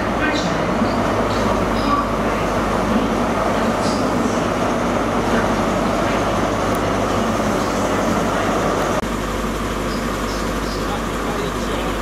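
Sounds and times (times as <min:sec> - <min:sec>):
diesel engine hum: 0:00.0 - 0:12.0
train moving on rails: 0:00.0 - 0:12.0.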